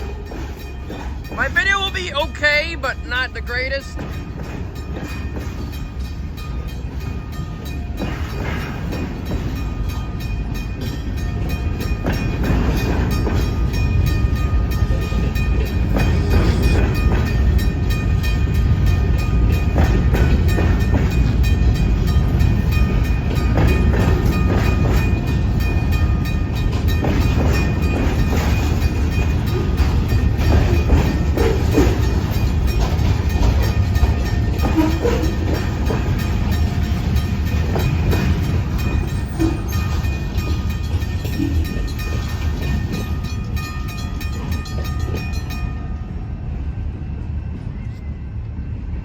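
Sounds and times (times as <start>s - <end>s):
wheels clacking over rail joints: 0.0s - 45.8s
freight train rumbling past: 0.0s - 49.0s.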